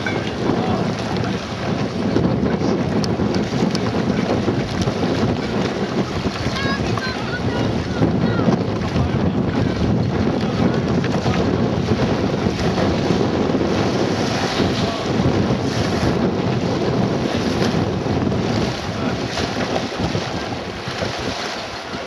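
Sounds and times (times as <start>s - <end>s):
choppy water: 0.0s - 22.0s
wind blowing across microphone: 0.0s - 22.0s.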